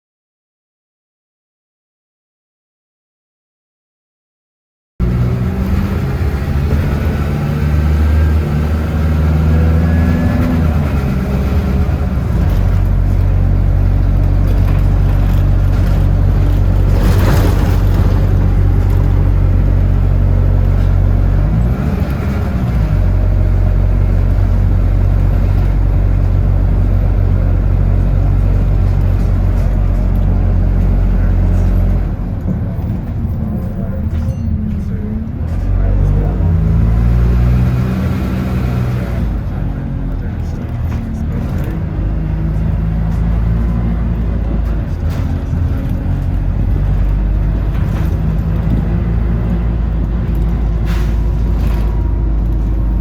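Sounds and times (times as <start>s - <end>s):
bus engine running: 5.0s - 53.0s.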